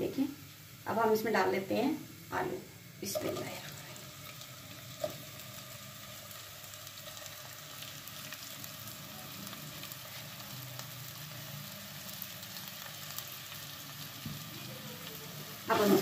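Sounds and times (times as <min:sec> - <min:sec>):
oil sizzling in frying pan: 0:00.0 - 0:16.0.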